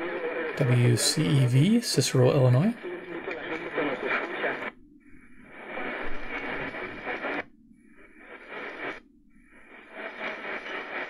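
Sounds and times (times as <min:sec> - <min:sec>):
faint radio station audio: 0:00.0 - 0:11.0
radio static: 0:00.0 - 0:11.0.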